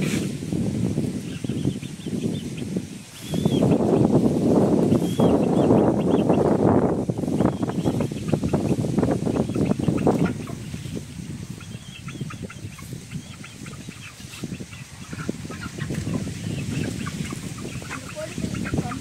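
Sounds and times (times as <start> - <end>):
birds clucking: 0.0 - 19.0.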